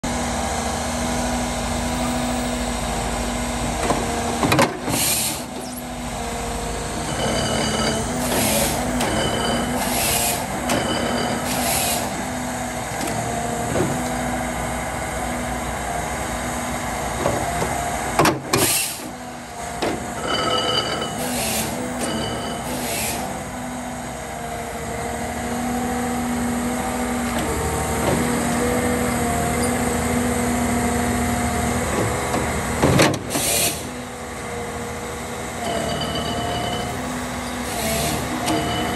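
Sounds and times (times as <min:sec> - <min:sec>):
harvester engine droning: 0:00.0 - 0:38.9.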